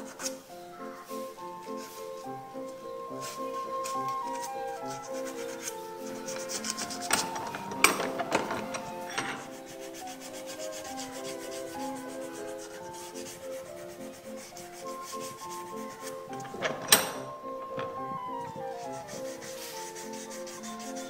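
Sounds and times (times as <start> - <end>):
hand sanding wood: 0.0 - 0.5, 1.1 - 16.6, 17.6 - 21.0
soft background music: 0.0 - 21.0.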